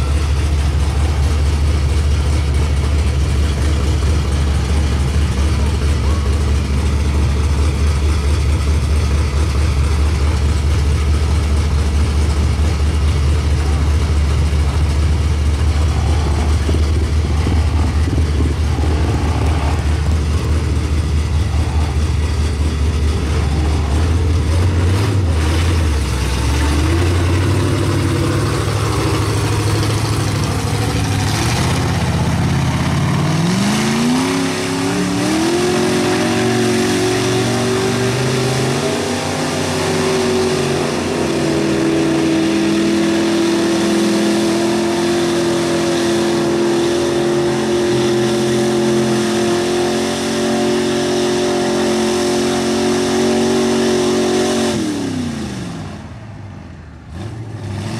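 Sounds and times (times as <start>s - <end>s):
truck engine idling and revving: 0.0s - 57.9s.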